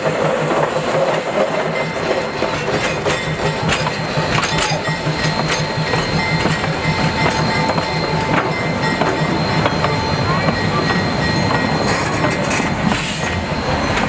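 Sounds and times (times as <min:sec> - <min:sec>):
high ringing from train wheels: 0:00.0 - 0:14.0
train wheels clanking over rail joints: 0:00.0 - 0:14.0.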